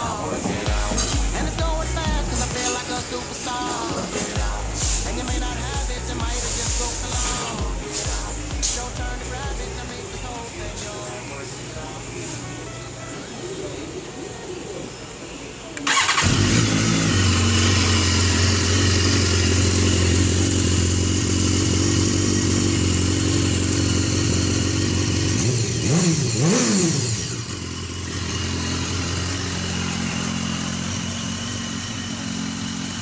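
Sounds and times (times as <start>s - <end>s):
motorcycle engine idling: 0.0s - 13.2s, 15.8s - 33.0s
motorcycle engine revving: 0.0s - 13.4s, 15.8s - 33.0s.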